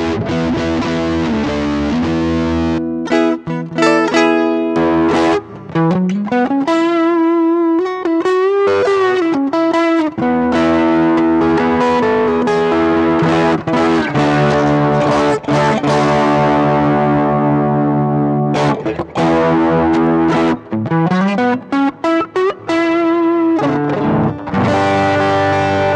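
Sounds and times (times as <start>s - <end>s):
overdriven electric guitar: 0.0s - 25.9s.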